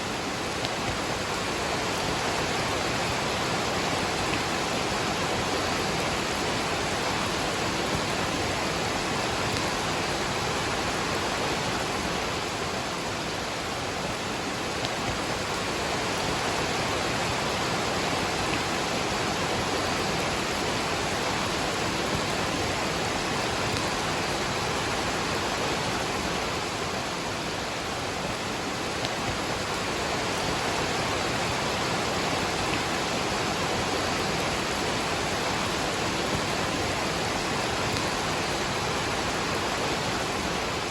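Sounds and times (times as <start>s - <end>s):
waterfall and rain rushing: 0.0s - 40.9s.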